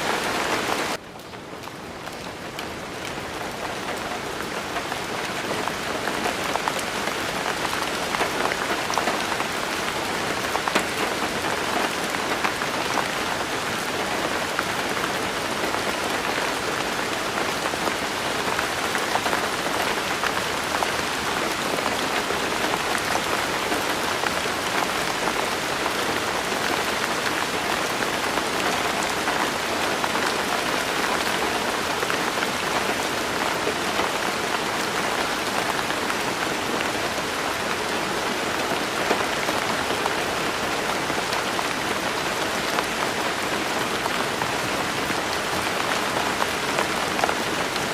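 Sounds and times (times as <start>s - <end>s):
rain patting on a surface: 0.0s - 47.9s.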